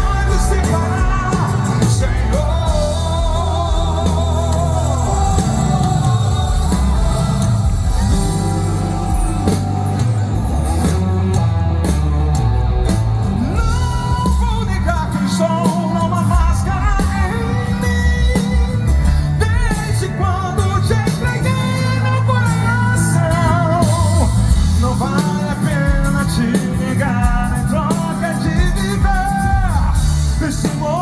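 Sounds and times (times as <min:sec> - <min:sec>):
person singing: 0:00.0 - 0:10.2, 0:13.4 - 0:31.0
gospel band music: 0:00.0 - 0:31.0.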